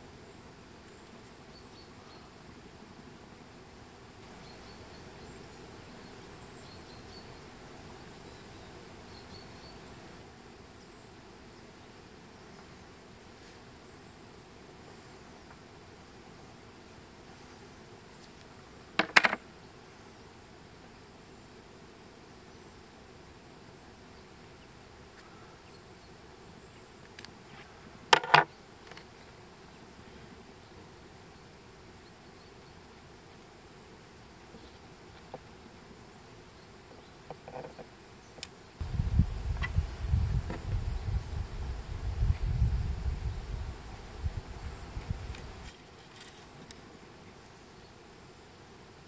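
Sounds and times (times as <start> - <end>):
insect buzzing: 0.0 - 49.0
steady low hiss: 0.0 - 49.0.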